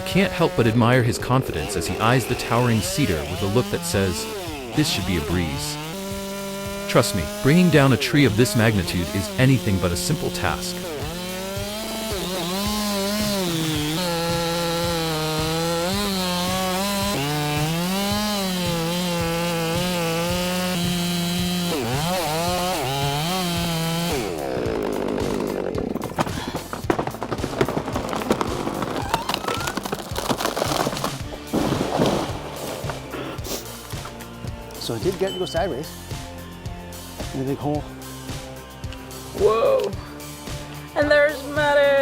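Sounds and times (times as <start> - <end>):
tree cracking and crashing: 0.0 - 35.2
chainsaw cutting: 0.0 - 40.9.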